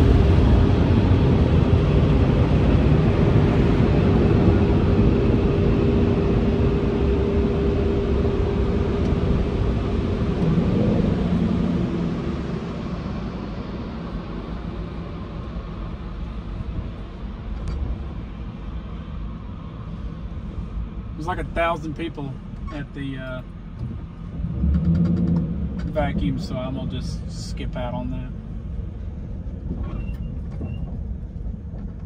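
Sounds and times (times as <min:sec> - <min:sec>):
car wash blowers roaring: 0:00.0 - 0:29.5.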